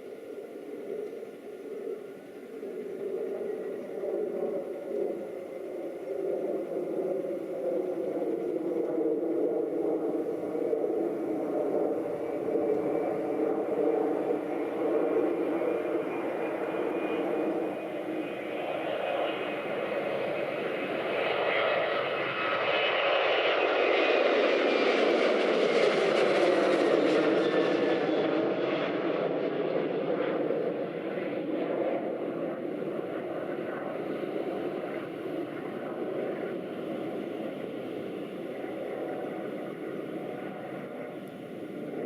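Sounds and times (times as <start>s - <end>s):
jet airliner passing: 0.0s - 42.0s.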